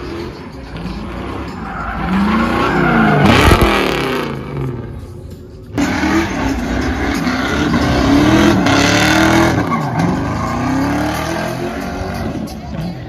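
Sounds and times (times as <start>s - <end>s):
car engine revving hard: 1.1s - 4.8s, 5.8s - 13.0s.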